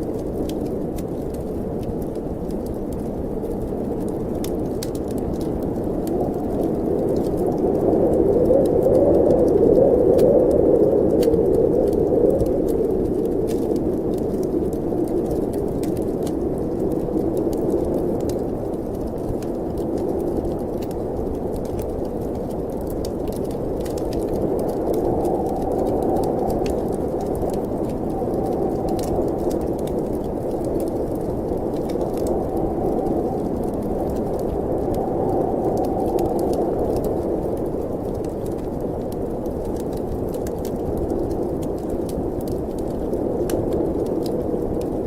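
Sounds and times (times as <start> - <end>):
snowstorm wind howling: 0.0 - 45.0
wood fire crackling: 0.0 - 45.0.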